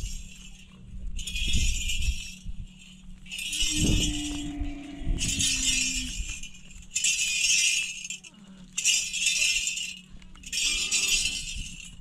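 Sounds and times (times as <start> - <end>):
jingling: 0.0 - 12.0.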